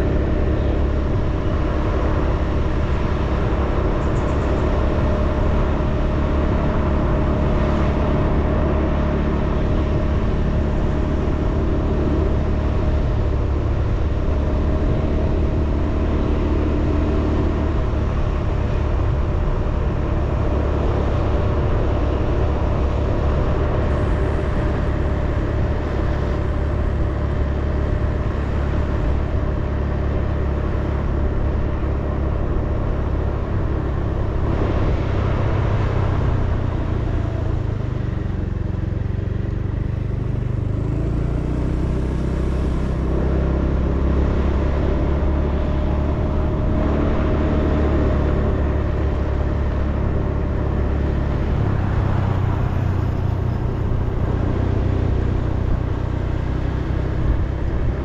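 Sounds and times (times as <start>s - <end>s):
road noise: 0.0s - 58.0s
vehicle engine hum: 0.0s - 58.0s.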